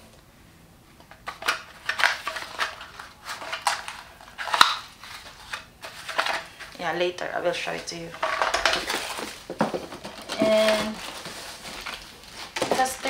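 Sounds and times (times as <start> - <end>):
cardboard packaging crackling: 1.2 - 6.8, 7.6 - 13.0.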